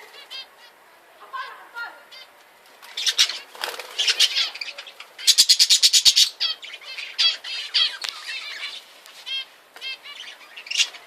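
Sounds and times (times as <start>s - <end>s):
cage birds chirping and squawking: 0.0s - 0.8s, 1.4s - 11.0s.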